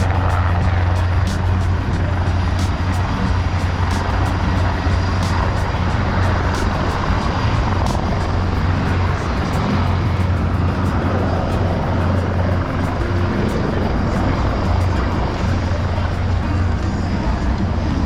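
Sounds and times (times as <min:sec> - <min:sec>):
aircraft engine drone: 0:00.0 - 0:18.0.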